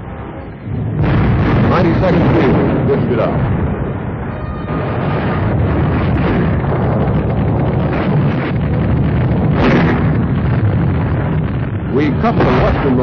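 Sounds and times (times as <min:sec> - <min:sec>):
artillery fire rumble: 0:00.0 - 0:13.0
sharp blast: 0:00.0 - 0:13.0.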